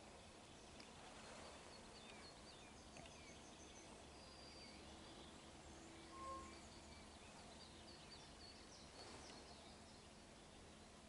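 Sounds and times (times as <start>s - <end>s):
songbirds chirping: 0.0s - 11.0s
steady background hiss: 0.0s - 11.0s.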